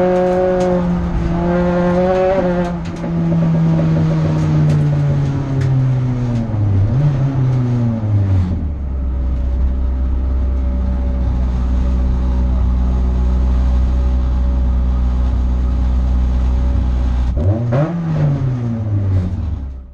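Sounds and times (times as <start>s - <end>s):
car engine from inside cabin: 0.0s - 19.9s.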